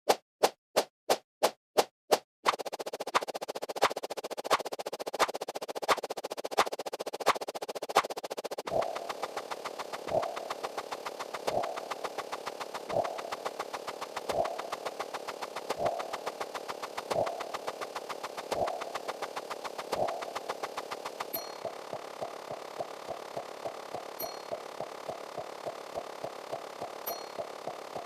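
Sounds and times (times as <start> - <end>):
rapid mechanical ticking: 2.5 - 28.0.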